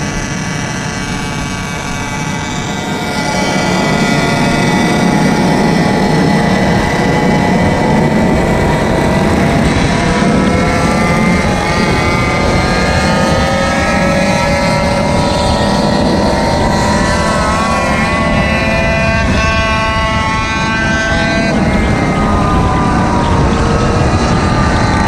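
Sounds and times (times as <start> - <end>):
road rumble: 0.0 - 25.0
small scooter engine running: 0.0 - 25.0
wind: 0.0 - 25.0.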